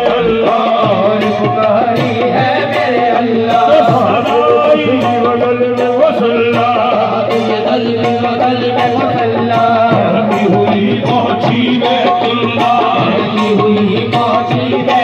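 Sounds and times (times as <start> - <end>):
person singing: 0.0 - 15.0
tabla beats: 0.0 - 15.0.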